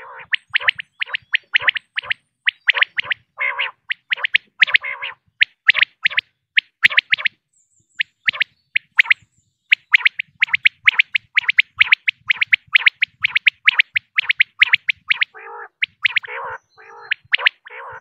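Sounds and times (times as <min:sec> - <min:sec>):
quail calling: 0:00.0 - 0:07.3, 0:08.0 - 0:18.0.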